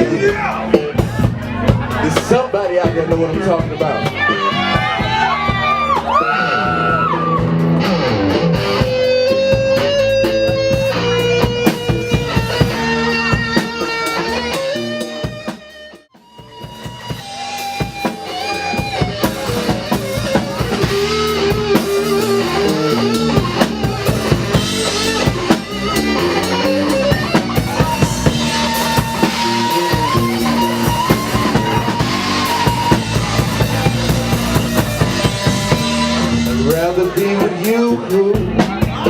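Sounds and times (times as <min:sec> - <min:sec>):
drum kit beat: 0:00.0 - 0:39.0
guitar: 0:00.0 - 0:39.0.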